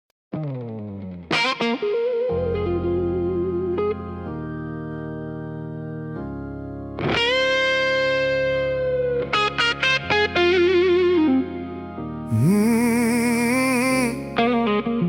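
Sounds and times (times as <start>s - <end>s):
electric guitar slow lead melody: 0.4s - 15.0s.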